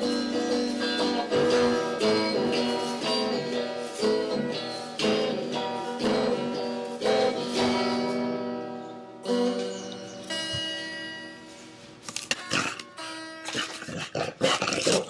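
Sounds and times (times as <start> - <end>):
acoustic guitar strumming chords: 0.0 - 13.9.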